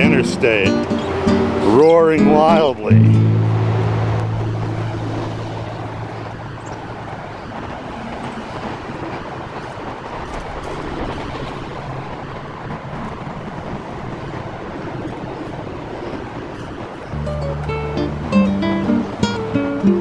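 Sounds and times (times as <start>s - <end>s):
highway traffic roar: 0.0s - 20.0s.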